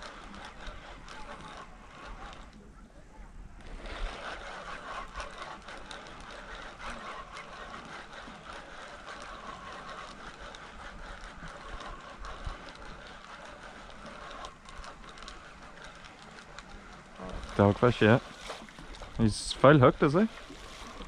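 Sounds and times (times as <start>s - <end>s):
fishing reel whirring and clicking: 0.0s - 2.7s, 3.6s - 21.0s.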